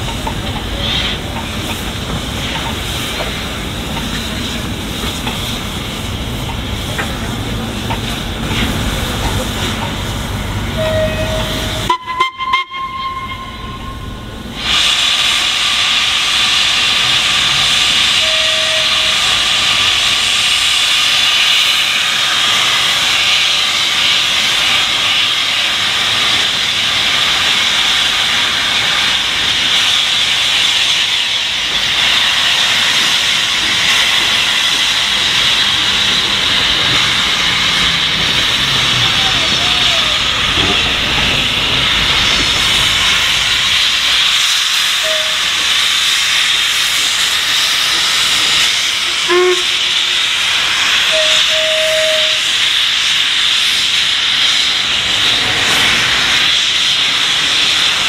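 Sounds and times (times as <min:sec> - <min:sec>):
steam hissing: 0:00.0 - 0:58.0.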